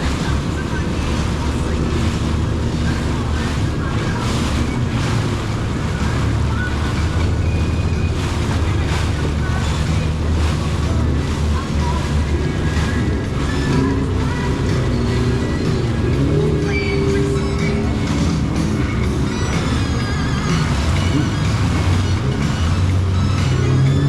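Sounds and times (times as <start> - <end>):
jet ski engine running: 0.0 - 24.0
water rushing: 0.0 - 24.0.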